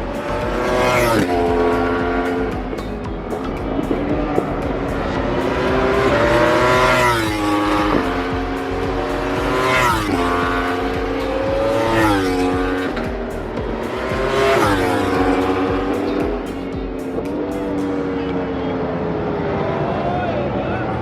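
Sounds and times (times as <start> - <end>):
racing motorcycle engines revving: 0.0 - 21.0.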